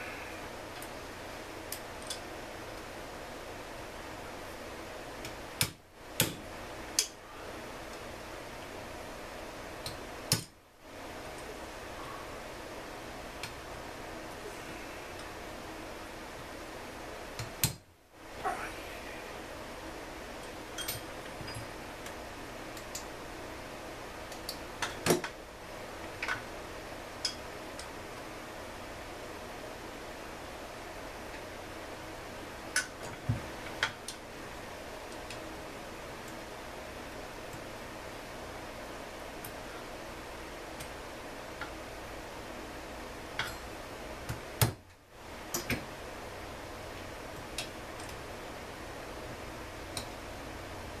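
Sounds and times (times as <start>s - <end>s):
steady low hiss: 0.0s - 51.0s.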